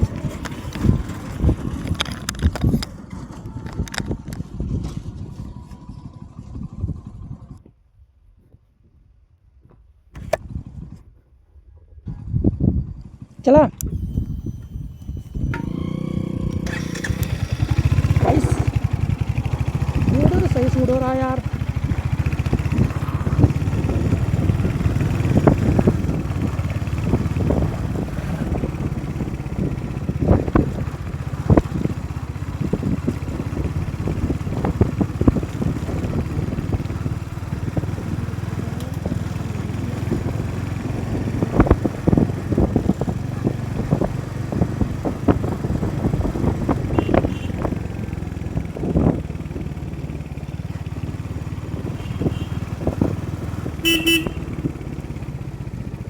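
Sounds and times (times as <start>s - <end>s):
motorcycle engine rumble: 0.0s - 7.6s, 12.1s - 56.0s.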